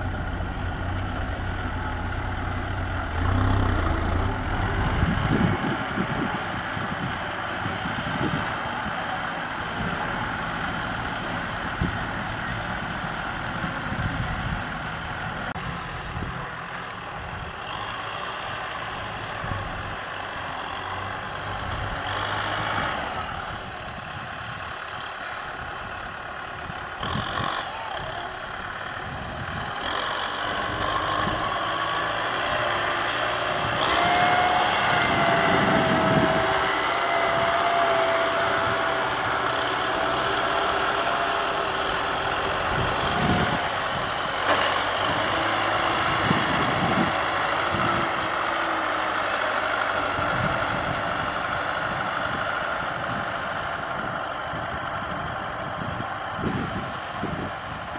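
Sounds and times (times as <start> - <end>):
tractor diesel engines running: 0.0 - 57.9.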